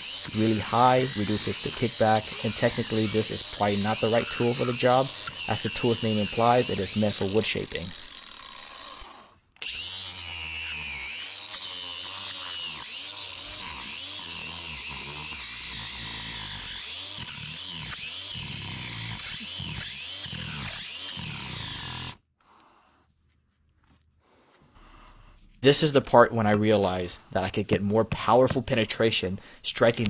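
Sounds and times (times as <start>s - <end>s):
angle grinder grinding wood: 0.0s - 23.1s, 24.2s - 30.0s.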